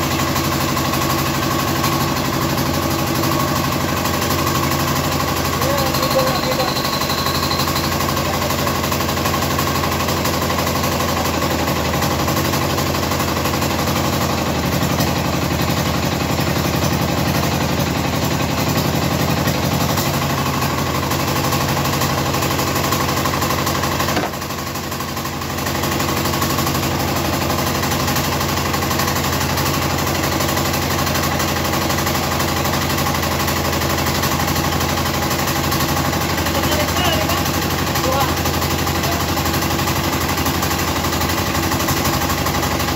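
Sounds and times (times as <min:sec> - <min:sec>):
diesel engine knocking: 0:00.0 - 0:42.9.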